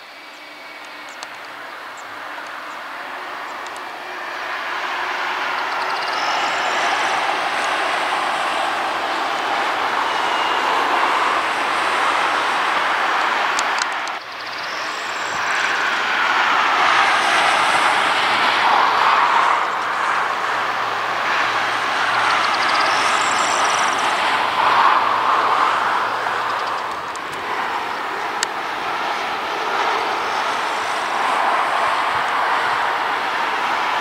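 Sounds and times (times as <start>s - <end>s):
faint high whine: 0.0s - 32.8s
jet engines rushing: 0.0s - 34.0s.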